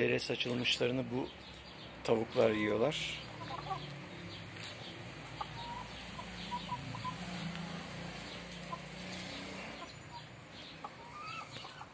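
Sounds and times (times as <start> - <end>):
hens clucking: 2.3 - 11.9.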